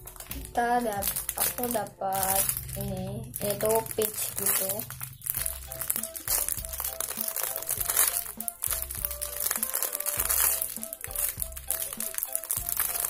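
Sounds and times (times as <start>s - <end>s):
background music: 0.0s - 13.0s
plastic bag crinkling: 0.0s - 13.0s.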